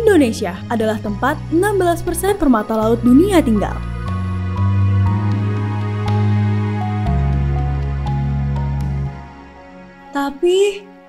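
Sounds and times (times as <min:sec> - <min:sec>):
gentle new-age music: 0:00.0 - 0:11.0.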